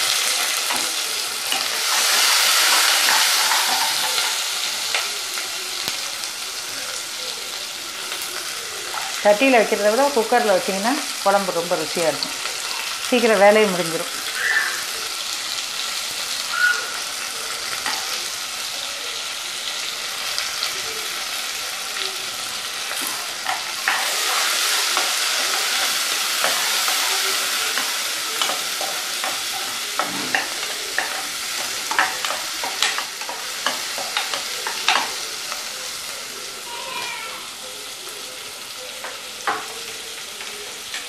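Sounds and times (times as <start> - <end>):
onions sizzling in hot oil: 0.0 - 41.0.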